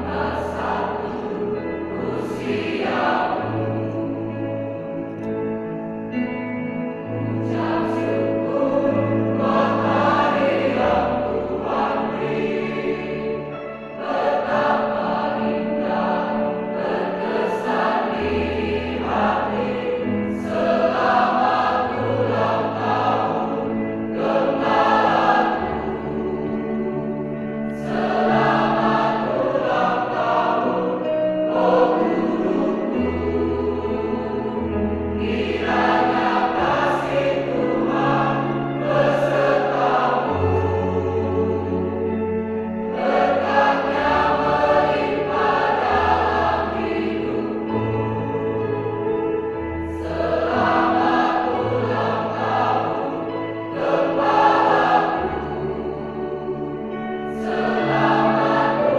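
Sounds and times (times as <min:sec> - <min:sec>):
mixed choir singing in harmony: 0:00.0 - 0:58.9.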